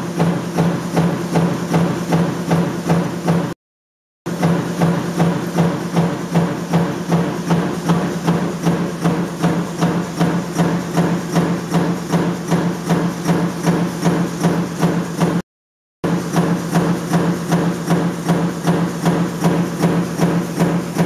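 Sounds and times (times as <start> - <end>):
metal-forming machine knocking: 0.0 - 3.6, 4.3 - 15.4, 16.0 - 21.0.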